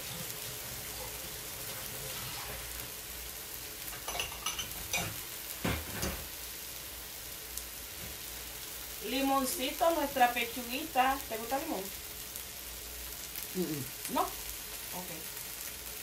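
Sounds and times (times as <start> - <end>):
chicken sizzling on a griddle: 0.0 - 16.0.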